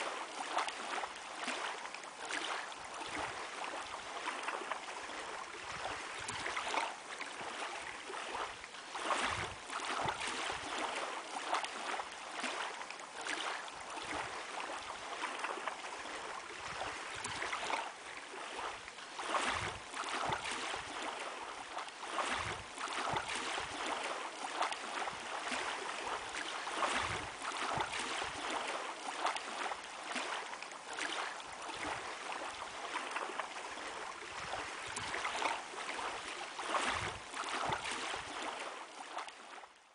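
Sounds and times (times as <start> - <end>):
water lapping and splashing: 0.0 - 39.9.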